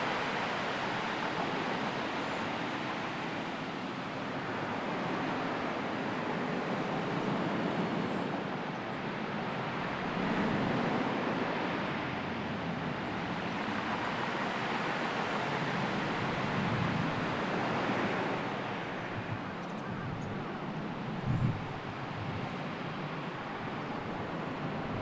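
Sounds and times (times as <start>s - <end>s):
sea waves washing: 0.0s - 19.6s, 20.3s - 25.0s
wind: 0.0s - 25.0s.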